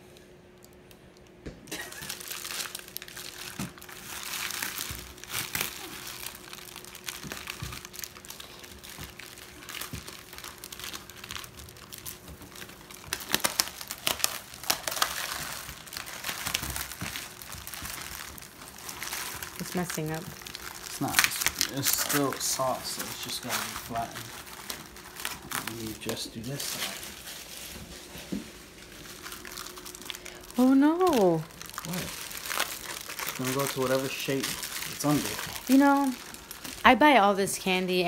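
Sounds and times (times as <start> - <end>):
plastic wrap crinkling: 1.7 - 38.0.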